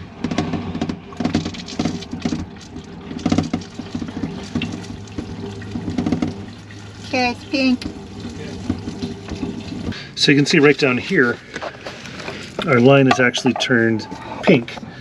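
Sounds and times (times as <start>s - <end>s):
water pump humming: 0.0s - 14.7s
liquid spurting into drain: 1.0s - 14.0s.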